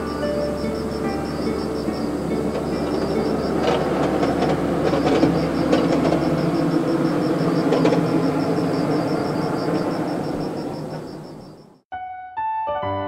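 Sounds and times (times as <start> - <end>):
bus engine and tyre noise: 0.0 - 11.8
rhythmic high chirping: 0.0 - 11.8.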